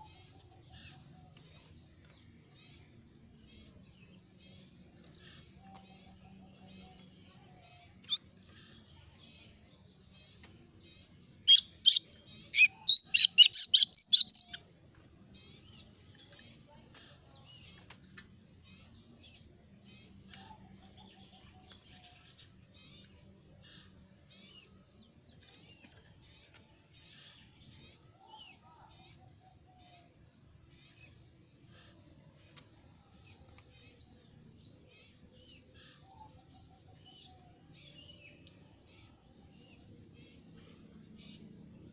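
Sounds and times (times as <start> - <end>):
hoarse songbird chirping: 0.0 - 41.9.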